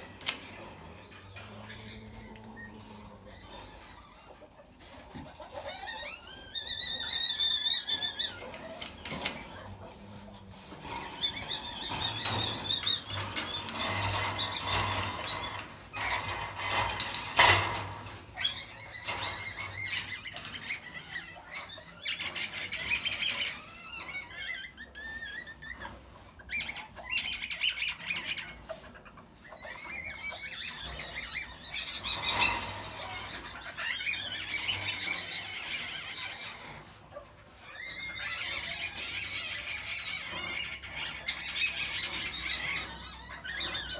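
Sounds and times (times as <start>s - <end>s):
civets squealing: 0.0s - 43.9s.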